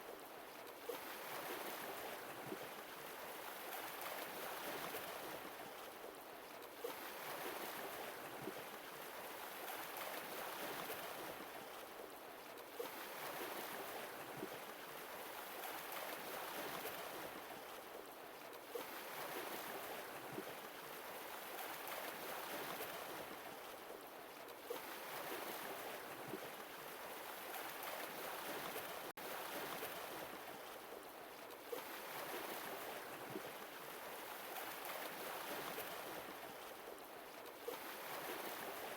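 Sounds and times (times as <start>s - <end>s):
sea waves breaking on shore: 0.0s - 6.2s, 6.8s - 38.9s.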